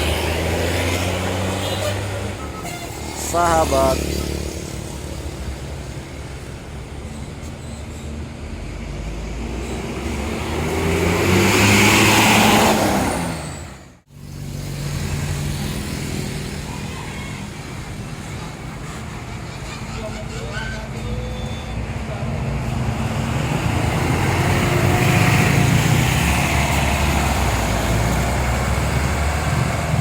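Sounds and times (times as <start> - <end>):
bus engine running: 0.0 - 30.0
bus passing: 0.0 - 30.0.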